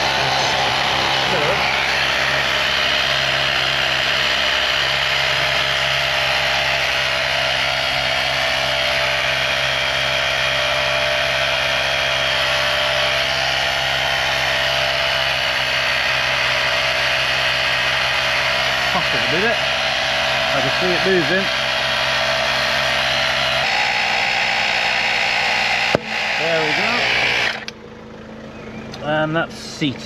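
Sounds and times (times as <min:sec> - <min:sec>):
air compressor running: 0:00.0 - 0:29.9.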